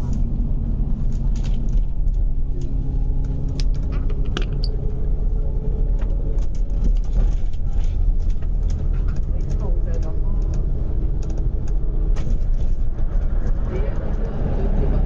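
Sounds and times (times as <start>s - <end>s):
bus engine and road rumble: 0.0s - 15.0s
bodywork clicks and rattles: 0.9s - 5.2s, 5.8s - 14.6s.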